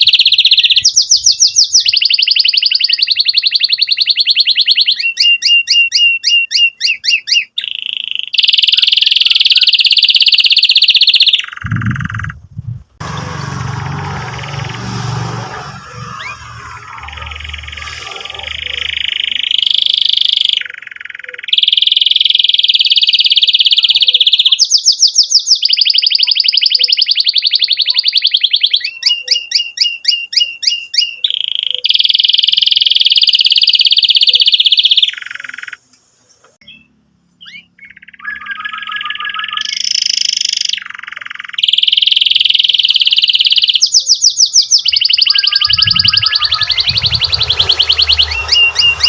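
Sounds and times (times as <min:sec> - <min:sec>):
canary singing: 0:00.0 - 0:49.0.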